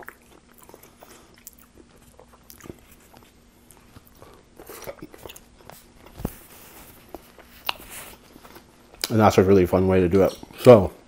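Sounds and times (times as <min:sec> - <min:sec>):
person chewing: 0:00.0 - 0:09.1.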